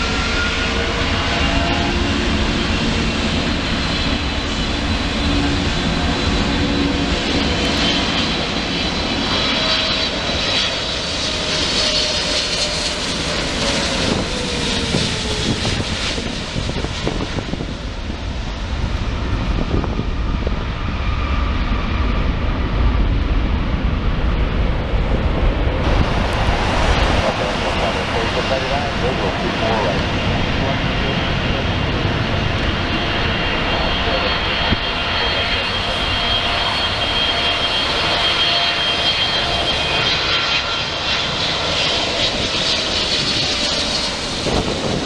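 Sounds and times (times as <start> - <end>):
jet airliner engines with fan whine: 0.0 - 45.0.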